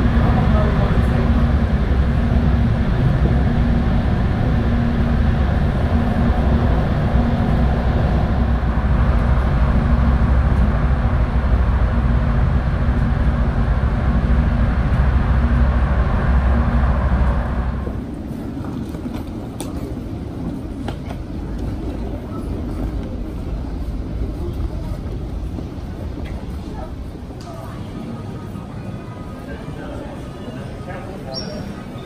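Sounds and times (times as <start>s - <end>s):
vehicle engine rumble: 0.0s - 29.4s.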